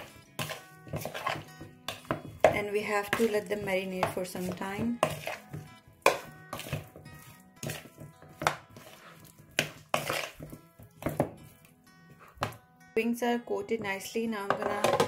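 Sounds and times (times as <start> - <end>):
spoon knocking and scraping bowl: 0.0 - 12.6, 13.8 - 15.0
soft background music: 0.0 - 15.0.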